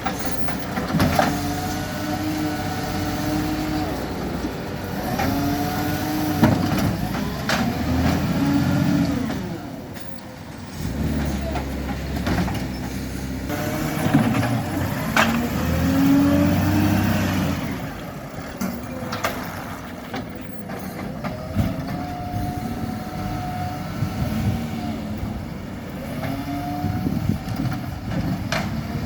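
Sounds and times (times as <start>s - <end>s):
garbage truck engine and hydraulics: 0.0s - 29.0s.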